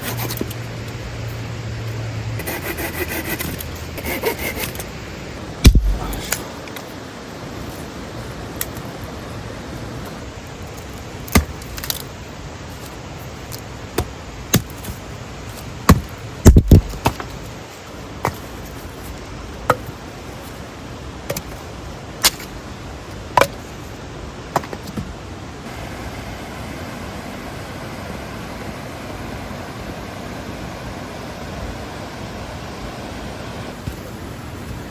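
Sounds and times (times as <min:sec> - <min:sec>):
mountain stream rushing: 0:00.0 - 0:34.9.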